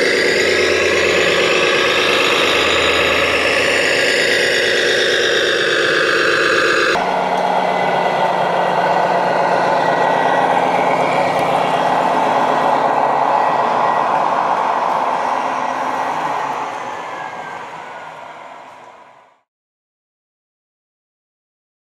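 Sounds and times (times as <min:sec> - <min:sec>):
toy truck engine drone: 0:00.0 - 0:19.4.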